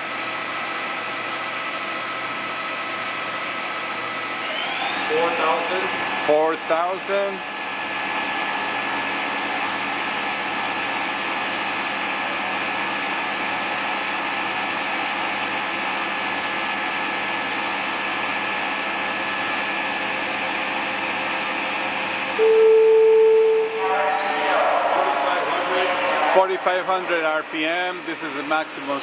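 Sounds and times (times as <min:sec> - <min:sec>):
machine spindle whine: 0:03.7 - 0:14.0, 0:14.7 - 0:29.0.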